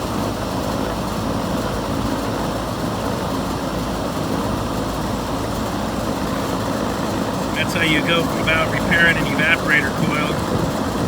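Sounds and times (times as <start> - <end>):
air conditioning unit running: 0.0 - 11.0.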